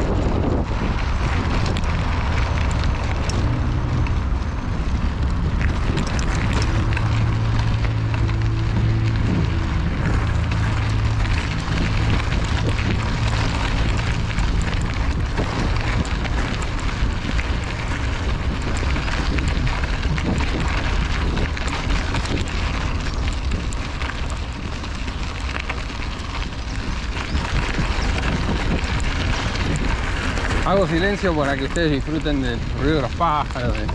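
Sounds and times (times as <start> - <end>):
bike tyres crunching on gravel: 0.0 - 33.9
wind buffeting microphone: 0.0 - 33.9.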